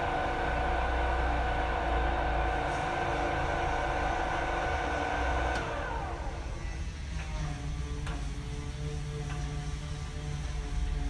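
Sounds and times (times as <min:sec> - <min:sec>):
pillar drill motor whine: 0:00.0 - 0:10.5.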